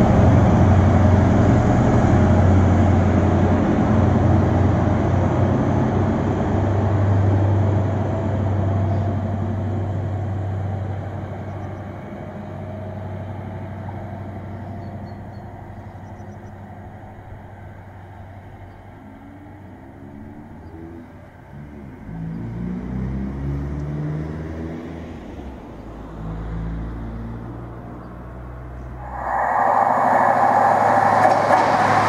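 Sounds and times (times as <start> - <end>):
diesel train engine drone: 0.0 - 22.7, 25.1 - 32.0.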